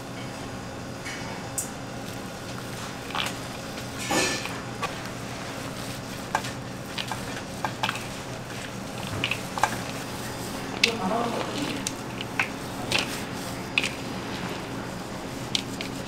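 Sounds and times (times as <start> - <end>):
steady low hum: 0.0 - 16.0
wet squelches of mixing meat: 2.0 - 16.0.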